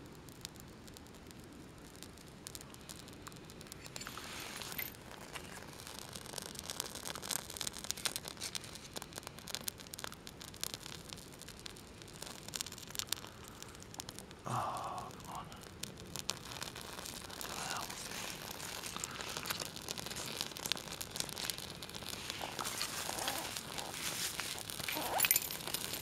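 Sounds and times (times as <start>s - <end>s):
fire crackling: 0.0s - 26.0s.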